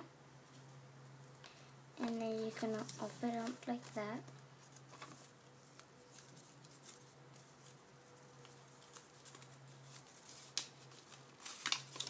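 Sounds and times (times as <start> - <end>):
low steady hum: 0.0 - 12.0
paper rustling and crinkling: 2.0 - 12.0.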